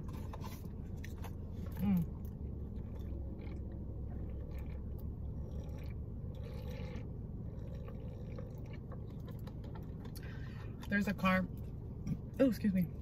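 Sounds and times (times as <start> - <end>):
chewing and wet mouth sounds: 0.0 - 12.4
steady low hum: 0.0 - 13.0.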